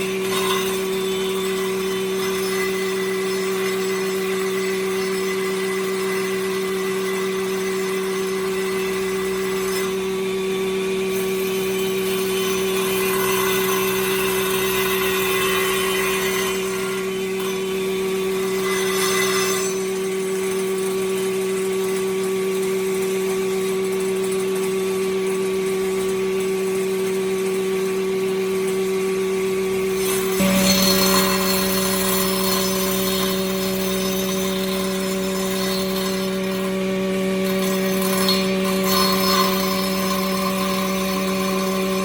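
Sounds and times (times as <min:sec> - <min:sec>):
blade cutting wood: 0:00.0 - 0:21.2, 0:28.0 - 0:42.0
saw motor hum: 0:00.0 - 0:21.8, 0:25.3 - 0:42.0.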